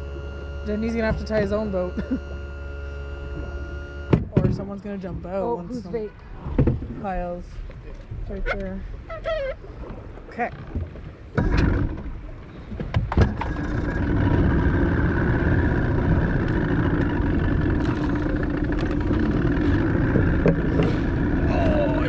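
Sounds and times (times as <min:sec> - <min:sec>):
boat motor running: 0:00.0 - 0:22.0.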